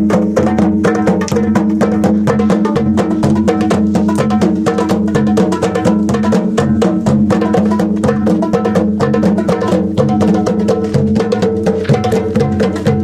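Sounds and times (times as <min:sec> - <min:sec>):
percussion music with drums: 0:00.0 - 0:13.0
wood block strikes: 0:00.0 - 0:13.0.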